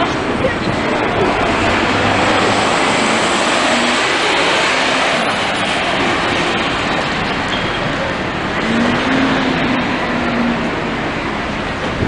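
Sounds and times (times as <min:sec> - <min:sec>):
bus driving past: 0:00.0 - 0:12.0.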